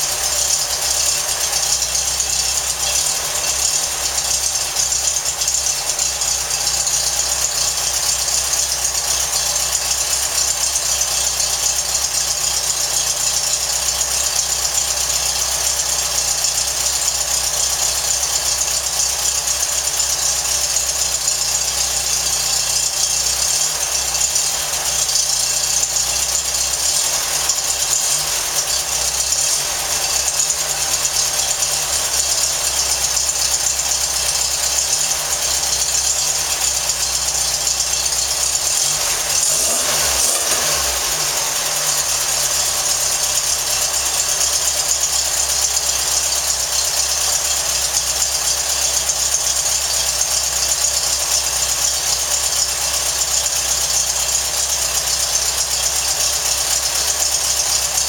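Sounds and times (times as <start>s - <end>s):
air-cooled engine running: 0.0s - 58.0s.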